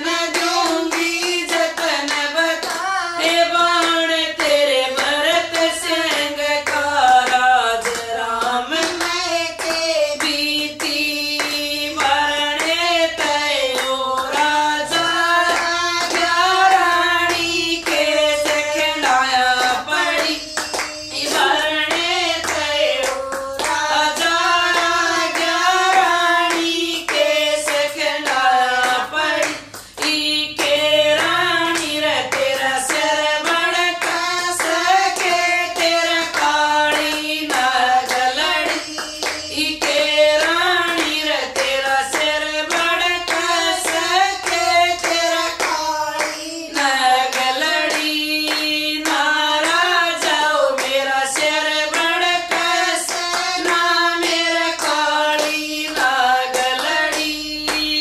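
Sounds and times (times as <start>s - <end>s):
hand claps: 0.0s - 58.0s
women singing together: 0.0s - 58.0s.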